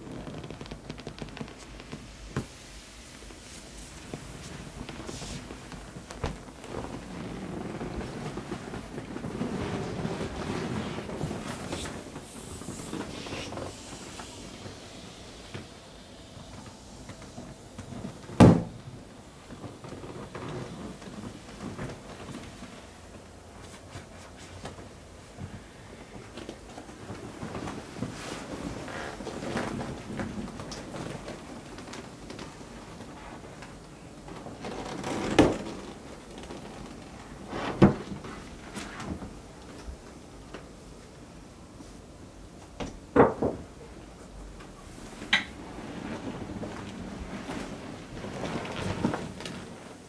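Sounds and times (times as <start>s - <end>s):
inflatable vinyl creaking and rustling: 0.0s - 50.0s.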